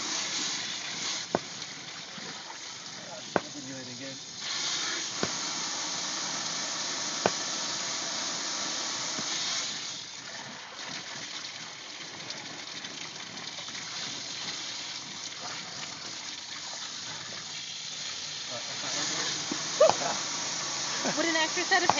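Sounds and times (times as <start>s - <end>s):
water spraying from a pipe: 0.0s - 21.9s.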